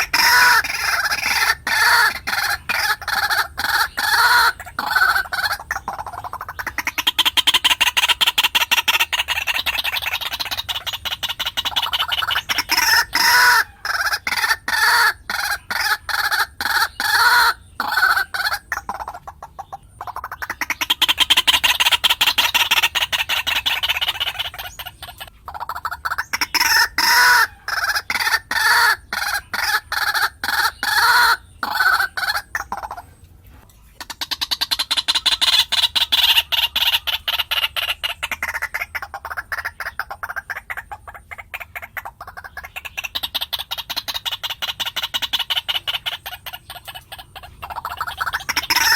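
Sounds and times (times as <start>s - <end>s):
waterhen clucking calls: 0.0s - 48.9s.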